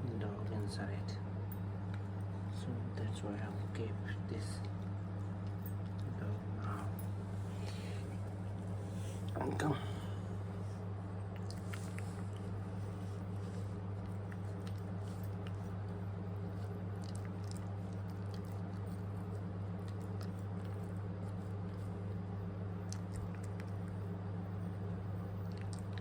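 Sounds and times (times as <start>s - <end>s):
low electrical hum: 0.0s - 26.0s
puppy chewing and lapping: 0.6s - 9.4s, 10.4s - 26.0s.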